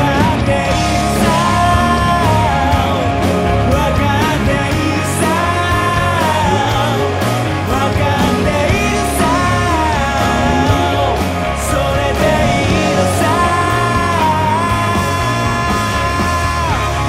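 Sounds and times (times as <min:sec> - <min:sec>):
rock song with singer and band: 0:00.0 - 0:17.0.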